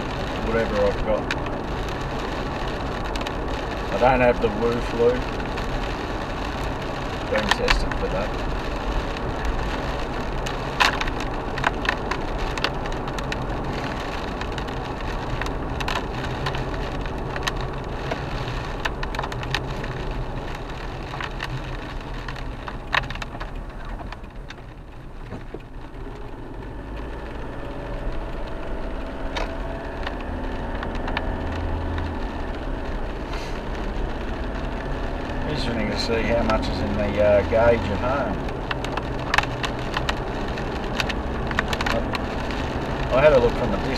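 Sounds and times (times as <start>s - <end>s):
car engine and wet road tyres: 0.0s - 43.9s
raindrops ticking on windscreen: 0.0s - 43.9s.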